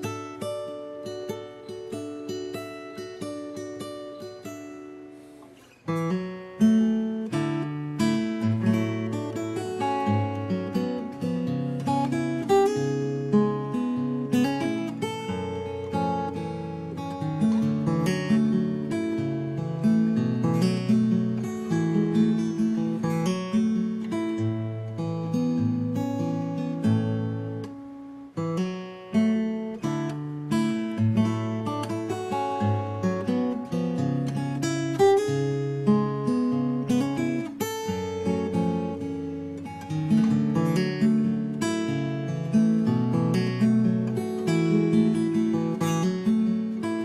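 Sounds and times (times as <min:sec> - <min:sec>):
strummed acoustic guitar: 0:00.0 - 0:47.0.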